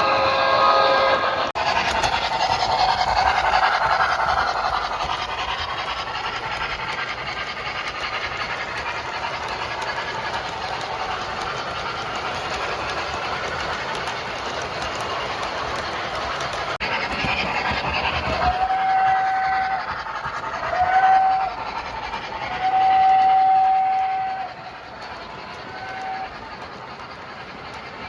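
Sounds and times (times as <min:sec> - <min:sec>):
steam hissing: 0:00.0 - 0:28.0
train wheels clicking over rails: 0:00.0 - 0:28.0.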